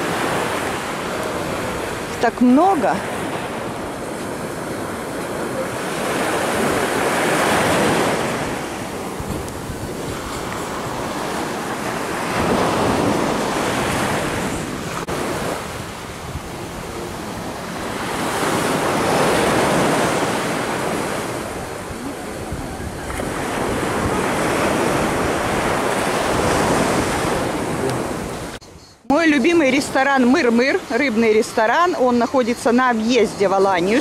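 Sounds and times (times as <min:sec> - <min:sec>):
wind buffeting microphone: 0:00.0 - 0:28.7
waves breaking on beach: 0:00.0 - 0:34.0.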